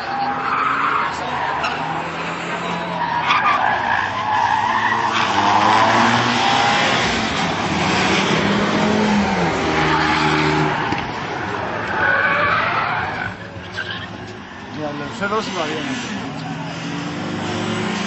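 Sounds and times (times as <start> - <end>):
car engines revving: 0.0 - 18.0
tyres screeching: 0.0 - 18.0.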